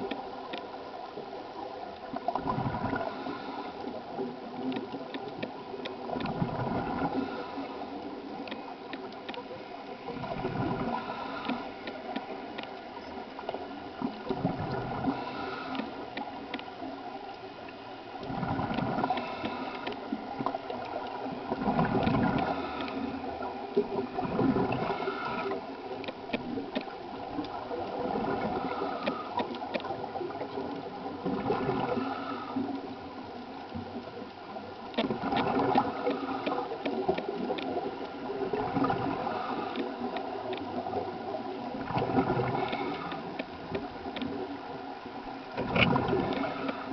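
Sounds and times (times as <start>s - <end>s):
regulator bubbles gurgling underwater: 0.0s - 46.9s.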